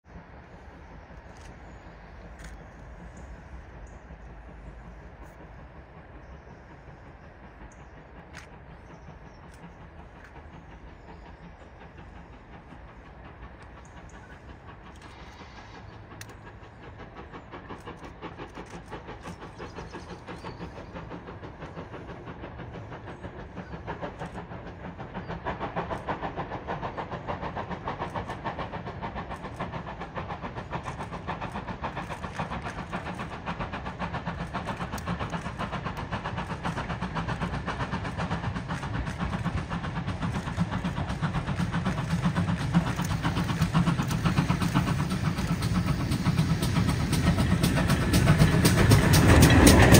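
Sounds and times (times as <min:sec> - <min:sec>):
steam locomotive exhaust beats: 0:00.1 - 0:49.9.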